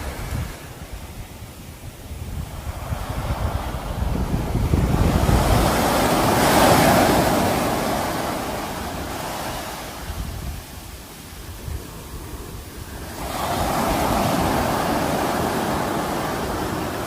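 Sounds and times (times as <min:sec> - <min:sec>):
sea wave breaking on shore: 0:02.7 - 0:17.0.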